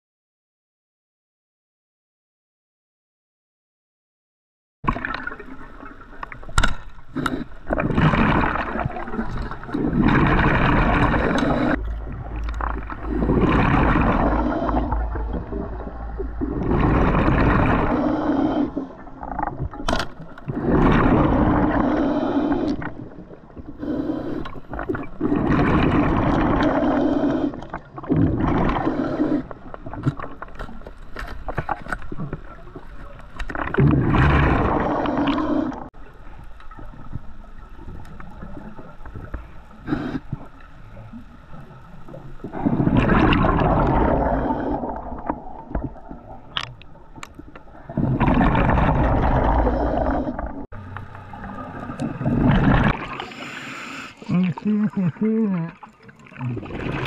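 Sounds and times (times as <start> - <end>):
underwater exhaust bubbling: 4.9 - 30.9, 31.5 - 57.0.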